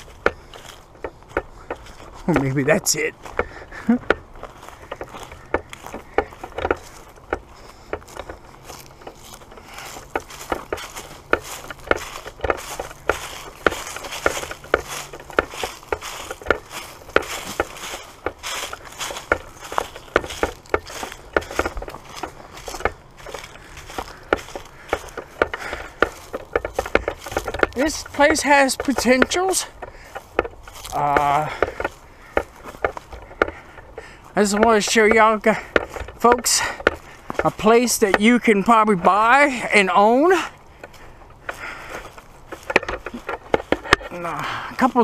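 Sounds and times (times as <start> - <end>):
footsteps crackling dry leaves: 0.0 - 45.0.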